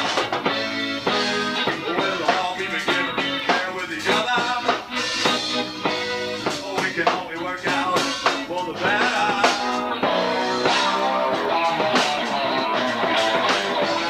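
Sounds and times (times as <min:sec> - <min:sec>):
bass guitar: 0:00.0 - 0:14.0
bongos: 0:00.0 - 0:14.0
drums: 0:00.0 - 0:14.0
guitar: 0:00.0 - 0:14.0.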